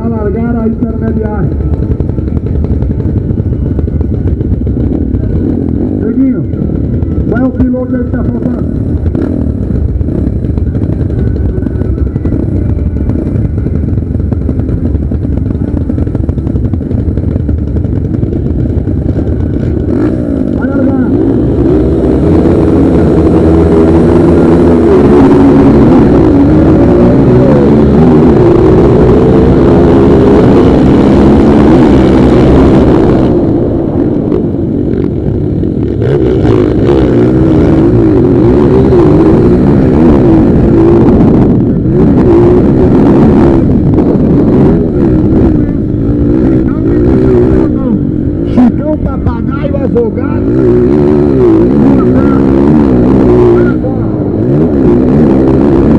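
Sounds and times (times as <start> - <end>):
motorcycle engines running: 0.0 - 55.9.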